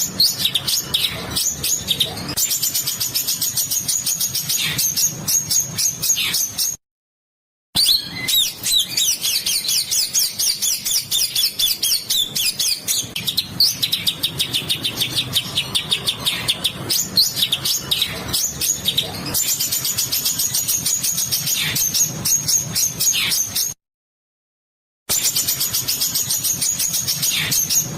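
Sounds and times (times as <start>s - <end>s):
songbird singing rapid phrases: 0.0s - 6.8s, 7.8s - 23.8s, 25.1s - 27.9s.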